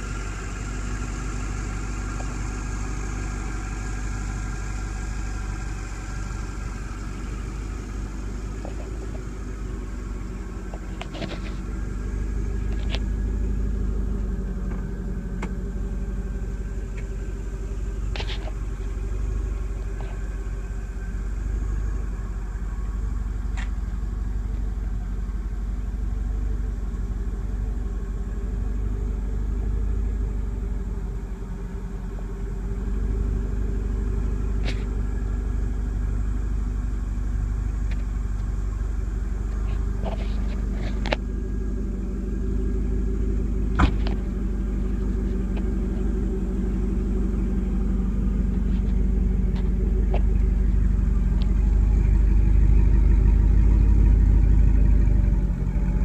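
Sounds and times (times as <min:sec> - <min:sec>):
car engine idling rumble: 0:00.0 - 0:56.0.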